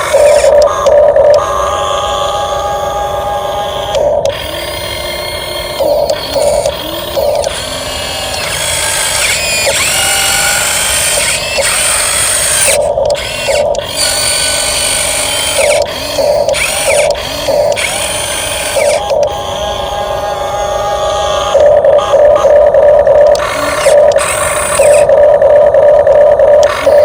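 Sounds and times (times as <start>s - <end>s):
toy truck electric motor whining: 0.0s - 27.0s.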